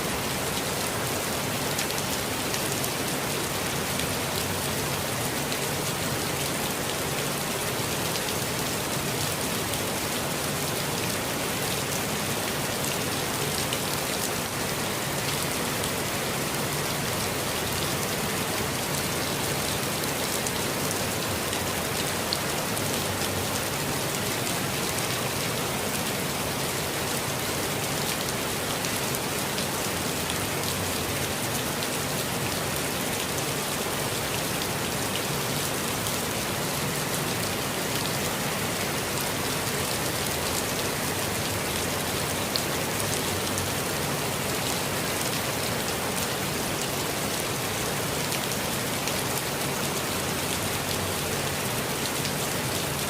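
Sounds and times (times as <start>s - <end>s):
rain on foliage: 0.0s - 53.0s.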